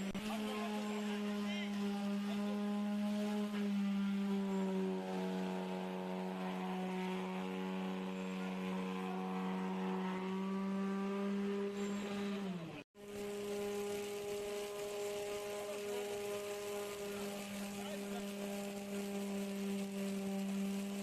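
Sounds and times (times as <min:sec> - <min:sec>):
machine droning hum: 0:00.0 - 0:21.0.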